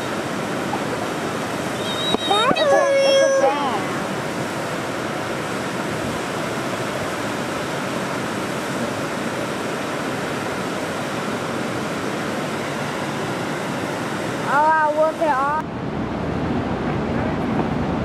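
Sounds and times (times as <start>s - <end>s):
water rushing from dam gate: 0.0s - 18.0s.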